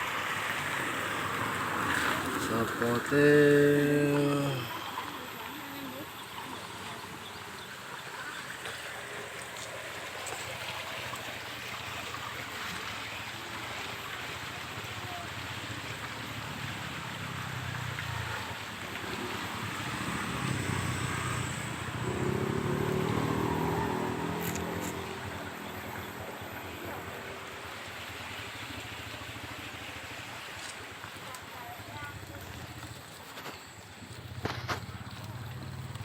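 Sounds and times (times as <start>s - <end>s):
flooded river rushing: 0.0s - 36.0s.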